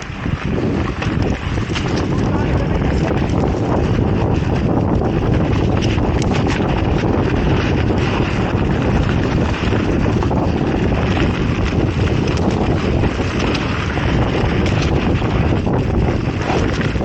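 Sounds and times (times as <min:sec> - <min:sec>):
tyres rumbling on dirt trail: 0:00.0 - 0:17.0
wind rushing over microphone: 0:00.0 - 0:17.0
faint clicks and rattles: 0:00.7 - 0:17.0.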